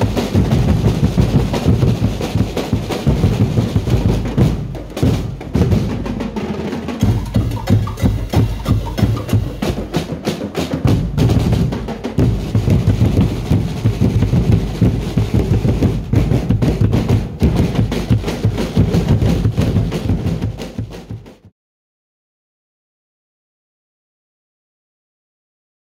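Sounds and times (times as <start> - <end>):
drum corps playing fast beat: 0.0 - 21.5.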